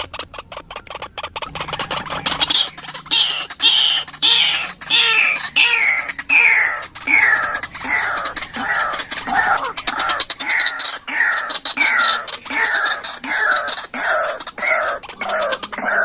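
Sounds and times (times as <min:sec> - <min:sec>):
waterhen harsh falling calls: 0:00.0 - 0:16.0.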